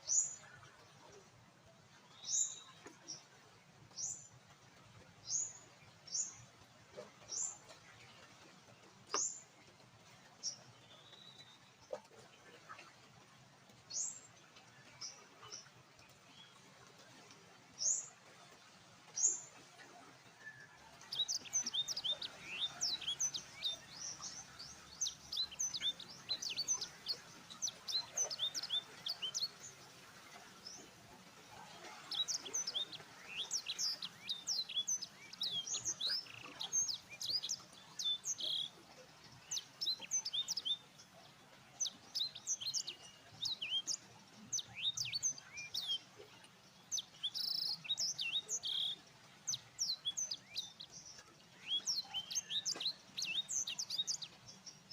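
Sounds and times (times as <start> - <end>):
small birds chirping: 2.0 - 54.9.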